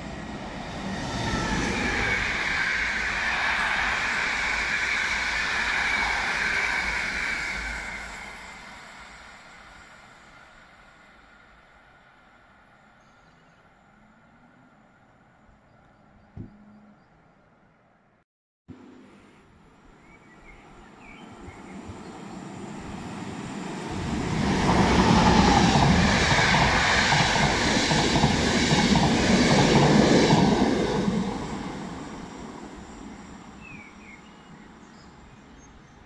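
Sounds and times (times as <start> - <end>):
wheels rushing on rails: 0.0 - 13.1, 18.7 - 36.0
train passing: 0.0 - 36.0.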